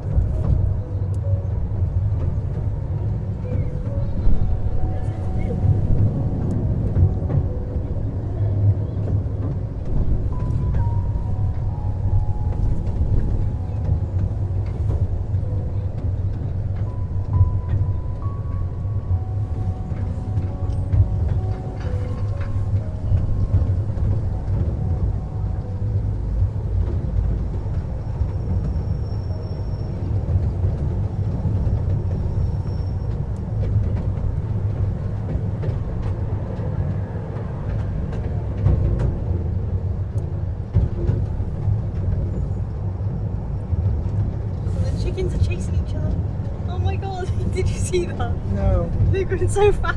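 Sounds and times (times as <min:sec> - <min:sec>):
small train rumbling: 0:00.0 - 0:49.9.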